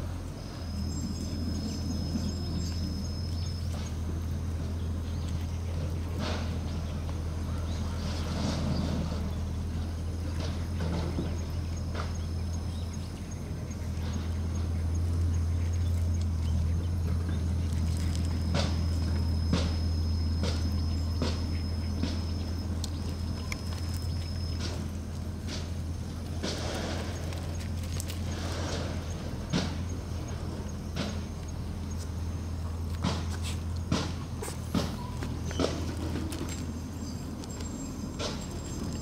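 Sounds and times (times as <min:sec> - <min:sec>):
faint high whine: 0:00.0 - 0:39.0
steady low hum: 0:00.0 - 0:39.0
dog paws on gravel: 0:00.1 - 0:39.0.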